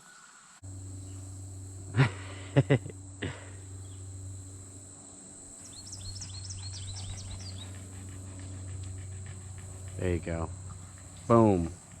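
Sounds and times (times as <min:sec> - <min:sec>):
high insect drone: 0:00.0 - 0:12.0
songbird singing: 0:00.0 - 0:12.0.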